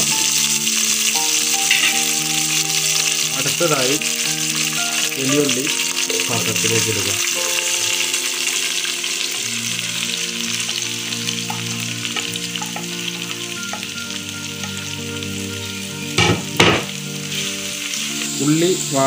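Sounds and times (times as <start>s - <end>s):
onions sizzling in hot oil: 0.0s - 19.0s
soft background music: 0.0s - 19.0s.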